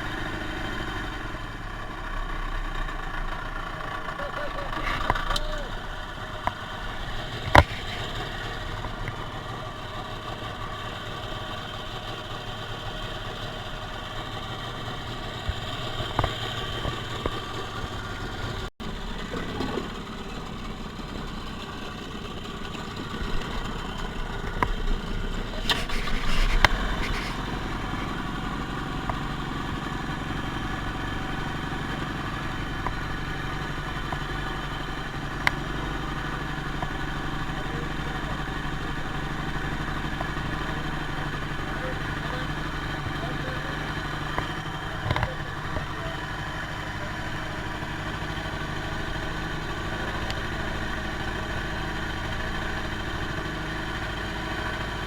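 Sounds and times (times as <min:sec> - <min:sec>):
small boat engine running: 0:00.0 - 0:55.0.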